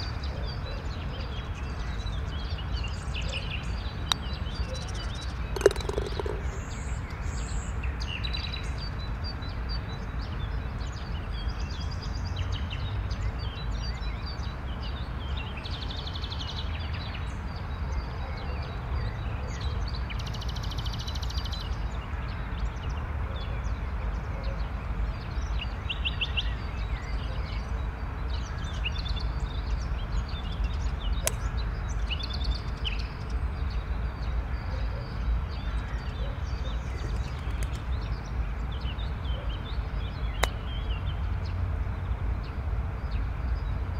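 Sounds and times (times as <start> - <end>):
small birds chirping: 0.0 - 17.8, 24.6 - 43.9.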